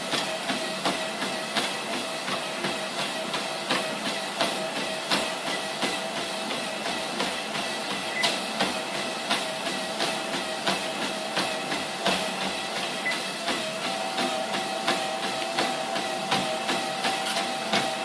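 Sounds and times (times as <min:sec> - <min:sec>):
rhythmic treadmill knock: 0:00.0 - 0:18.0
treadmill motor whine: 0:00.0 - 0:18.0.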